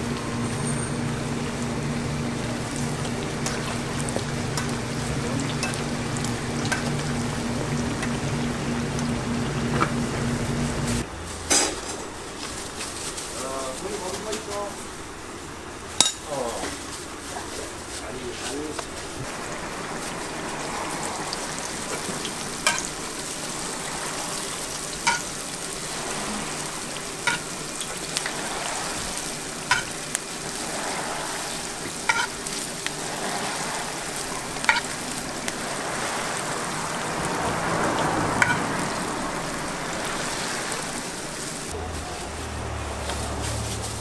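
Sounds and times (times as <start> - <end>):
pancakes sizzling in oil: 0.0 - 11.0, 17.2 - 41.8.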